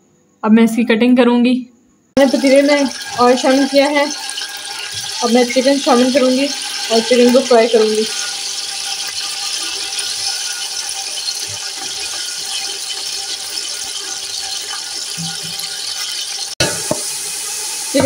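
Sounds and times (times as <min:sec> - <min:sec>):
chicken sizzling in hot oil: 0:02.2 - 0:18.0.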